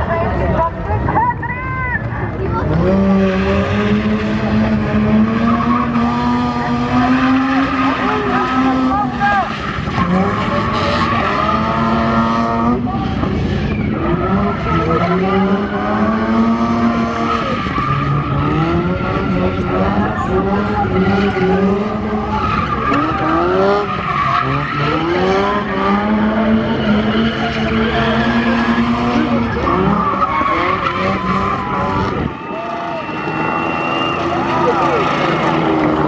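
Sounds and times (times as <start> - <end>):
car engine revving: 2.3 - 36.0.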